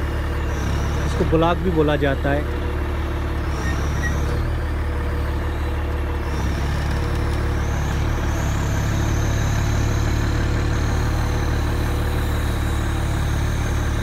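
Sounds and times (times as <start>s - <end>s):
hydraulic whine: 0.0s - 14.0s
truck engine running: 0.0s - 14.0s.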